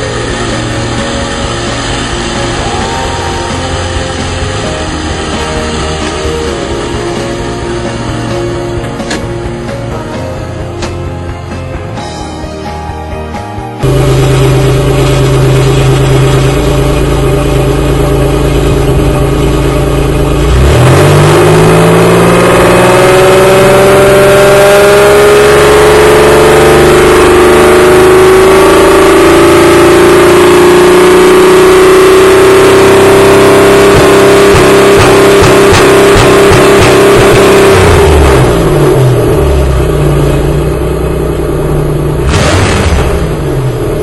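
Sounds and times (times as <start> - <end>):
supercharged engine whine: 0.0 - 12.9, 13.6 - 44.0.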